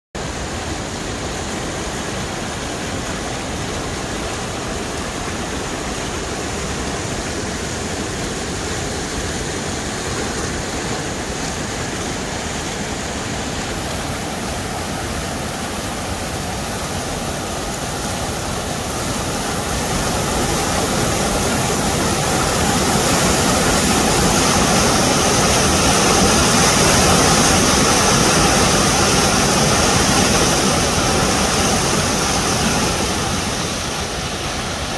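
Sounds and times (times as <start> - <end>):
water rushing over rocks: 0.2 - 34.9.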